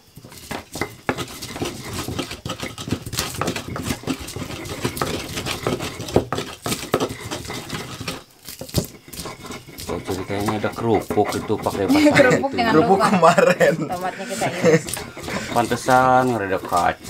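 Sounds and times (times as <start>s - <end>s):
pestle pounding in mortar: 0.1s - 17.0s.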